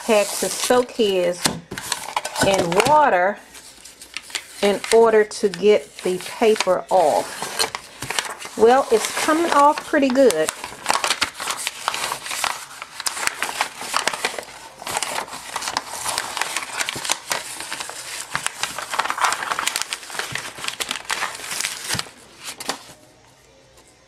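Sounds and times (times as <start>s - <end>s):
paper crinkling while peeled: 1.8s - 23.0s.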